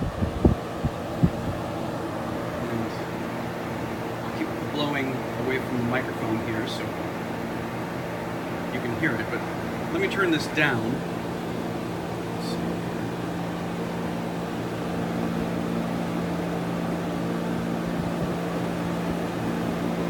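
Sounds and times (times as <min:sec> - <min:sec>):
air conditioner compressor hum: 0:00.0 - 0:20.0
fan airflow noise: 0:00.0 - 0:20.0.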